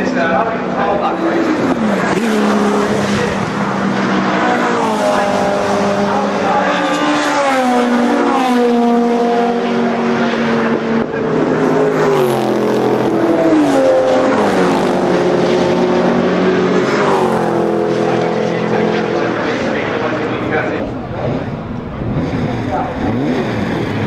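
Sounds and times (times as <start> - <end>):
racing cars passing at speed: 0.0 - 24.0.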